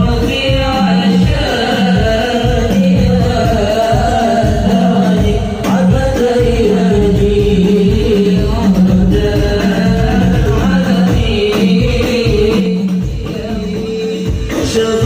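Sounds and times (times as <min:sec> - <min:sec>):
frame drums beating: 0:00.0 - 0:15.0.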